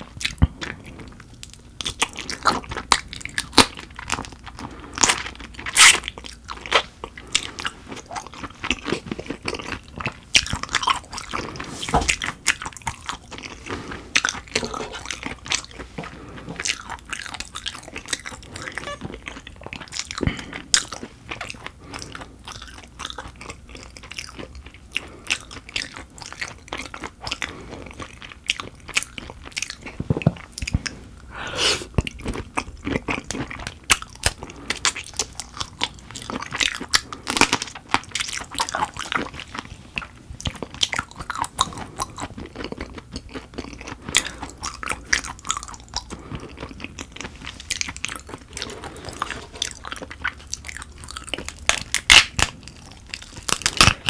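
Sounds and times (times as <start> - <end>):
biting and chewing: 0.0 - 54.0.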